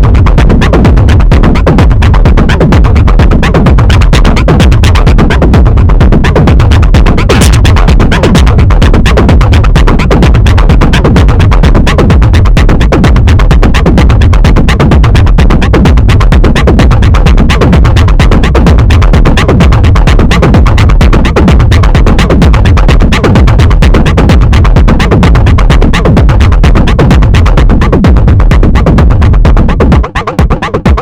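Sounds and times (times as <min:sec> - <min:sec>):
fast techno percussion pattern: 0:00.0 - 0:31.0
heavy bass: 0:00.0 - 0:31.0.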